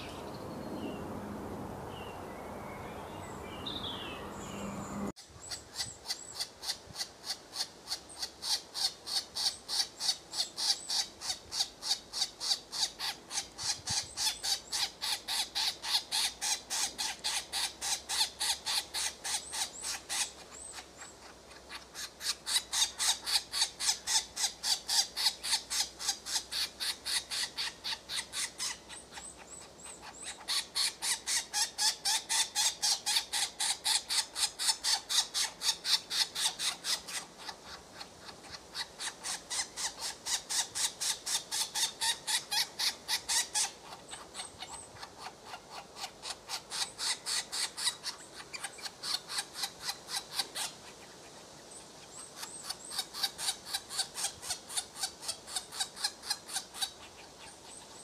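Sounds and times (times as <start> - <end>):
nestlings begging calls: 3.5 - 51.0.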